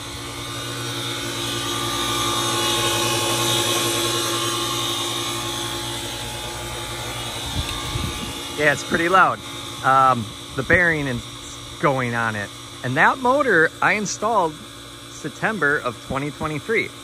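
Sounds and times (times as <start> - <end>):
pool pump motor humming and whining: 0.0 - 17.0.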